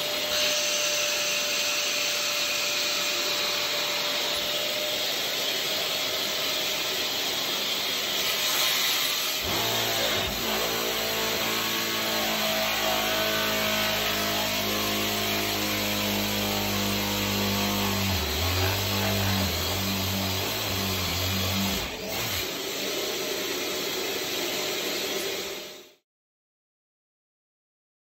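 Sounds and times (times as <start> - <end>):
drill boring into wall: 0.0 - 23.3
dust extractor hissing: 0.0 - 25.8.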